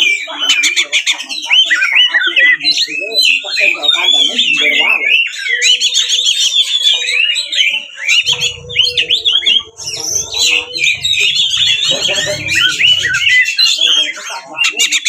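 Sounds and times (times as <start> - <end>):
bird singing whistles and trills: 0.0 - 15.0.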